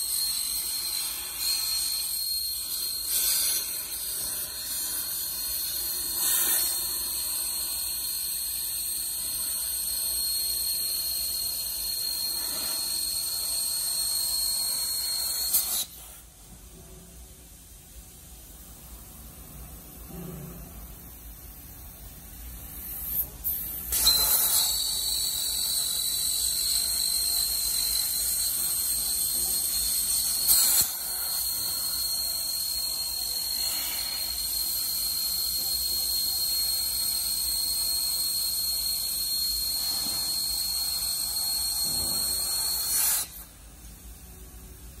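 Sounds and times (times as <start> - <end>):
plasma arc hissing with whine: 0.0 - 45.0.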